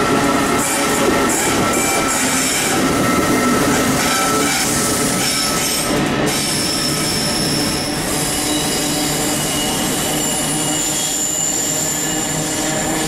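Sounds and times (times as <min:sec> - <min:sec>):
freight train passing: 0:00.0 - 0:13.0
wheels squealing on rails: 0:00.0 - 0:13.0.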